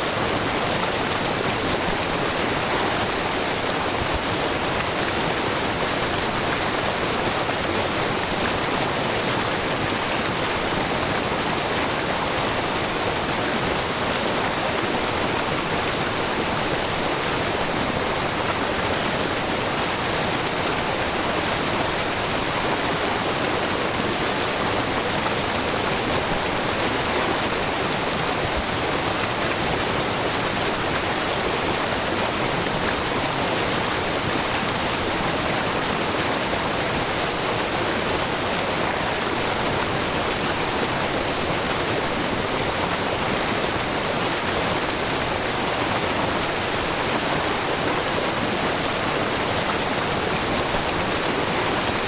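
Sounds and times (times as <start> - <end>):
water falling over rocks: 0.0 - 52.0.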